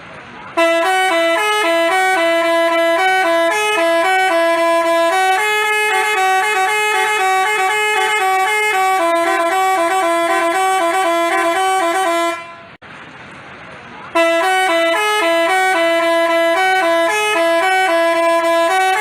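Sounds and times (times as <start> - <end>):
multi-tone bus horn melody: 0.4 - 12.8, 14.1 - 19.0.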